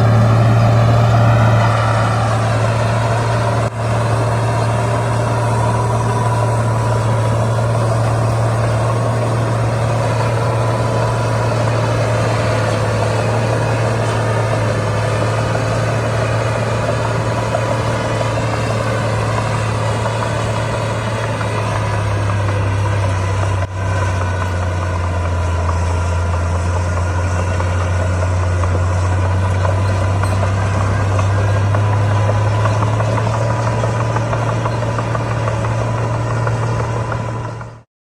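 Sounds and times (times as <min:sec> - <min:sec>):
heavy diesel engine droning: 0:00.0 - 0:37.9.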